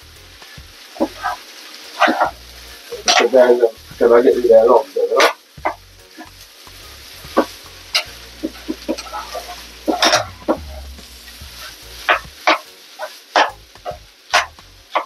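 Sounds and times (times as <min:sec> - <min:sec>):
rice sizzling in frying pan: 0:00.0 - 0:15.0.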